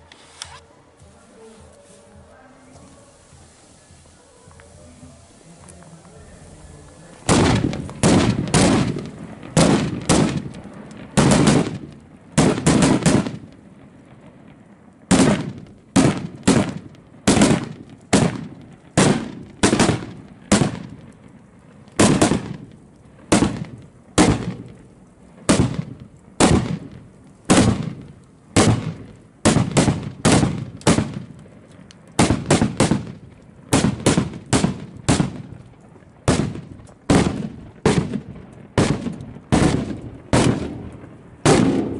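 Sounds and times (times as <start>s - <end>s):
firework rockets banging: 0.0s - 41.9s.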